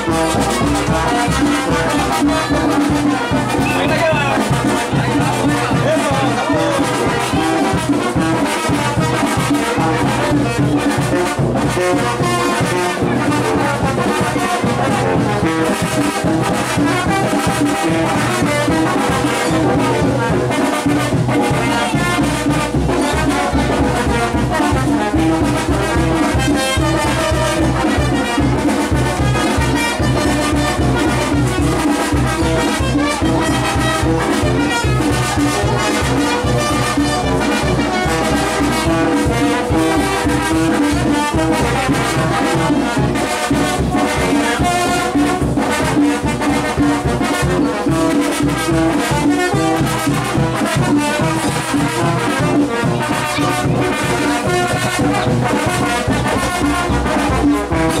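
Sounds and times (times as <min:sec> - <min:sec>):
brass band dance music: 0:00.0 - 0:58.0.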